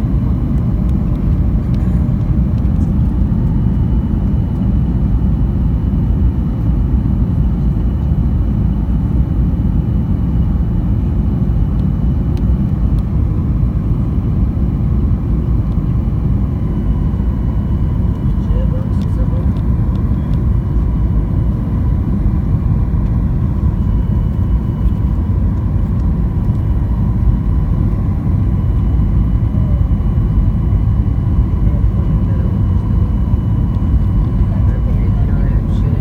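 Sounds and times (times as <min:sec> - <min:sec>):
airplane cabin roar: 0:00.0 - 0:36.0.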